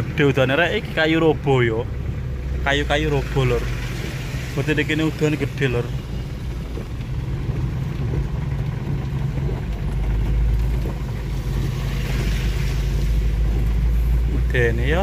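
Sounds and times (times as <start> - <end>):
deep rumble: 0.0 - 15.0
vehicle engine and road noise: 0.0 - 15.0
rain hiss: 2.2 - 15.0.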